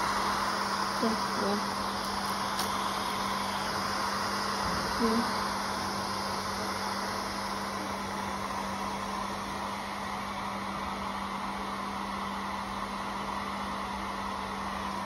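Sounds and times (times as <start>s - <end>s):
pet blower rushing air: 0.0s - 15.0s.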